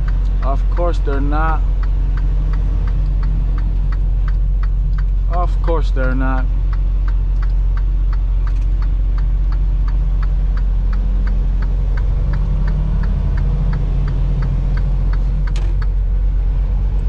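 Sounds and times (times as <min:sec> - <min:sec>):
diesel engine drone: 0:00.0 - 0:17.0
road noise: 0:00.0 - 0:17.0
turn signal ticking: 0:00.0 - 0:17.0.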